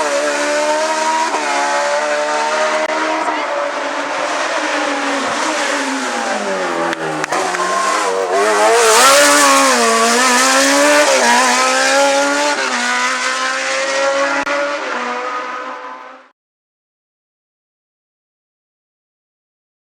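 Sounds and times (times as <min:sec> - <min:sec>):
race car engine revving: 0:00.0 - 0:16.3.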